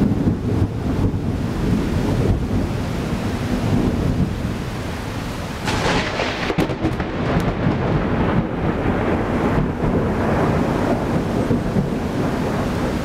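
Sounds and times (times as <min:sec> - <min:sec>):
heavy rain: 0:00.0 - 0:13.0
rolling thunder: 0:00.0 - 0:13.0.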